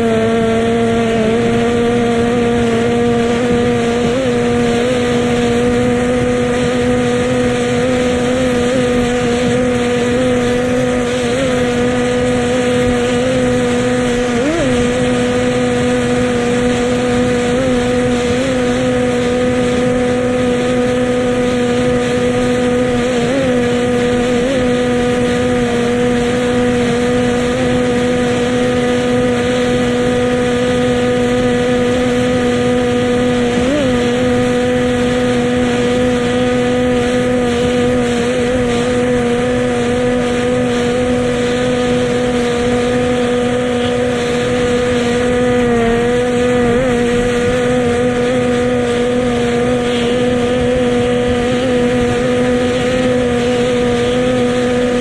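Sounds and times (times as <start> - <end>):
powerboat engine droning: 0.0 - 55.0.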